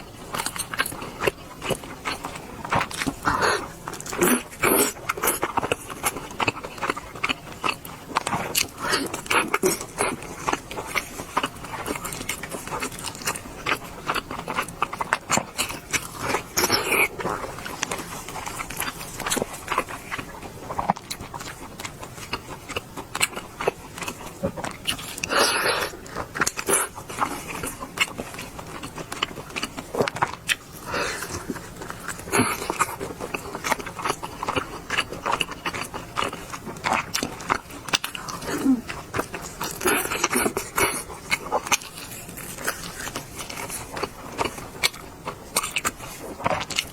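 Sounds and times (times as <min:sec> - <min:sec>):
close chewing with wet smacks: 0:00.0 - 0:46.9.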